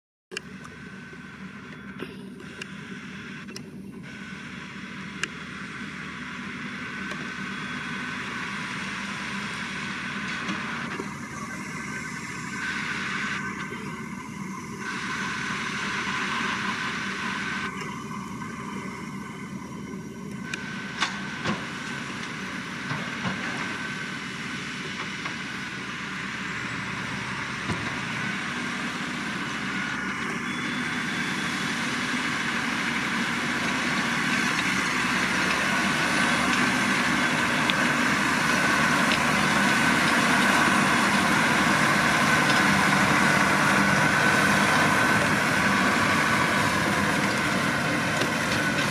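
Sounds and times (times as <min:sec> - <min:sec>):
machinery whine: 0:00.3 - 0:48.9
tractor engine under load: 0:00.3 - 0:48.9.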